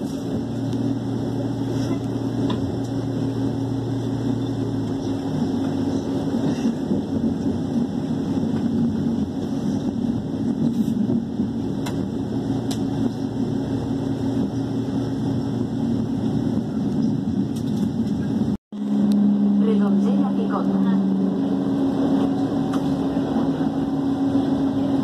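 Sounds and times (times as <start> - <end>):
train running noise: 0.0 - 25.0.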